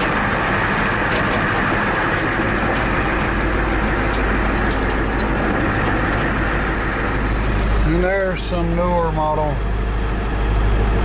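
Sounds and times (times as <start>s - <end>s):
engine and road noise in cab: 0.0s - 11.0s.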